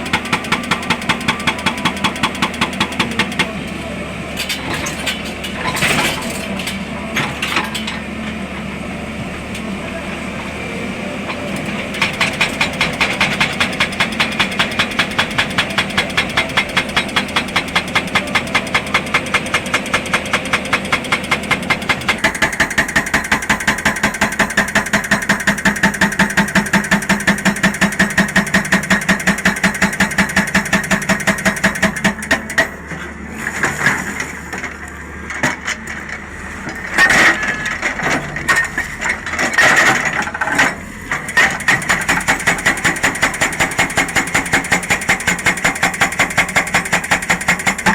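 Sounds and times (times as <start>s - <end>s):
excavator engine running: 0.0s - 47.9s
hydraulic rock breaker pounding: 0.0s - 47.9s.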